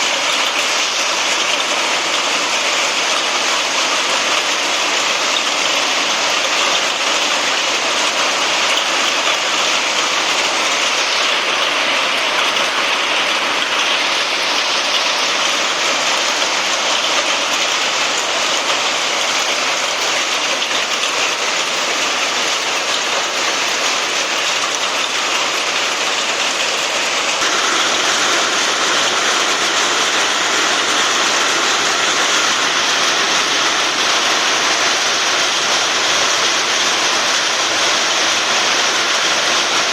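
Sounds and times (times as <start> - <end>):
rain and hail falling: 0.0 - 39.9.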